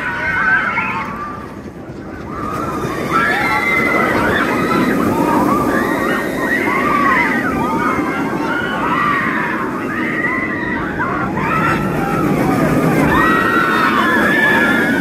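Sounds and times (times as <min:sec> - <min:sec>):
riders screaming and shouting: 0:00.0 - 0:15.0
roller coaster train rushing past: 0:00.0 - 0:15.0.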